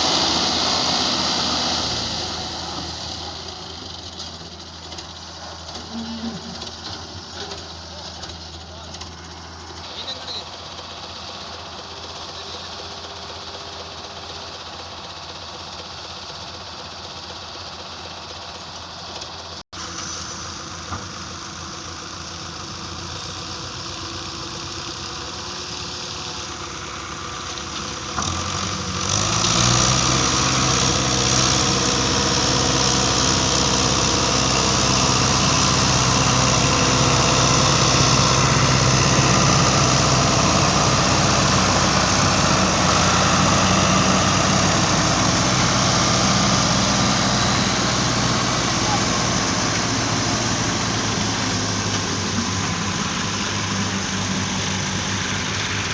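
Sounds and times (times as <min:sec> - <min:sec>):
closer engine low hum: 0:00.0 - 0:10.8, 0:19.8 - 0:55.9
heavy machinery engines running: 0:00.0 - 0:55.9.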